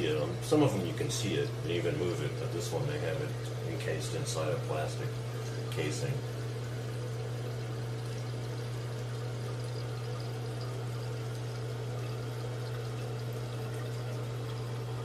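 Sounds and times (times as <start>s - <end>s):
water rushing into toilet tank: 0.0s - 15.0s.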